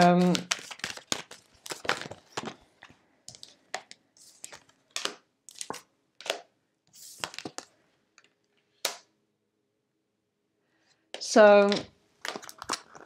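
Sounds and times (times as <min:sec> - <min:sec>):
cards being shuffled and laid down: 0:00.0 - 0:09.1, 0:11.6 - 0:13.0.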